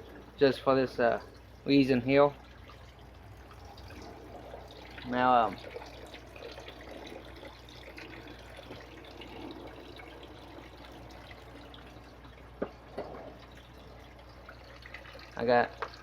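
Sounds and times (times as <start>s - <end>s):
steady low hum: 0.0s - 15.4s
water trickling and dripping: 0.0s - 16.0s.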